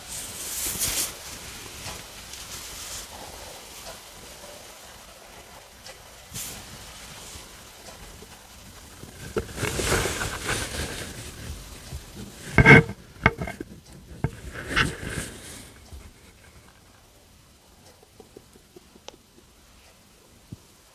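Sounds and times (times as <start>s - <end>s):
stomach rumbling and gurgling: 0.0s - 20.9s.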